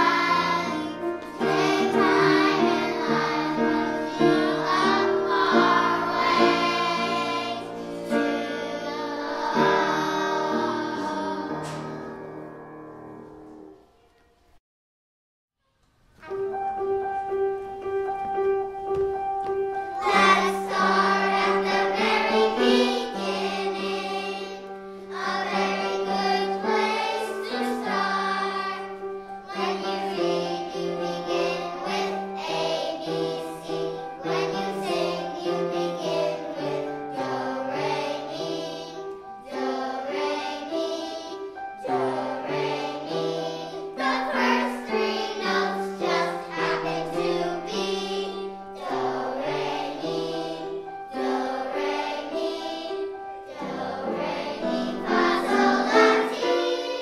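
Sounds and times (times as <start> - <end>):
children's choir singing: 0.0 - 13.8, 16.2 - 57.0.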